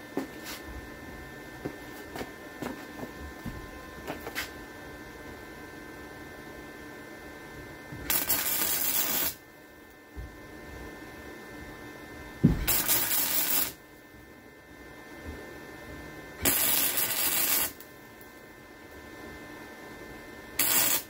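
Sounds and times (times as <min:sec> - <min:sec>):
electric arc welder running: 0:00.0 - 0:21.0.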